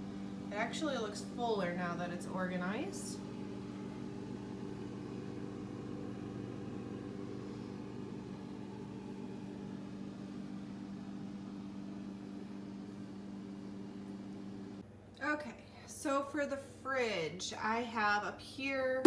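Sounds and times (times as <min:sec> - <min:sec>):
refrigerator humming: 0:00.0 - 0:15.6.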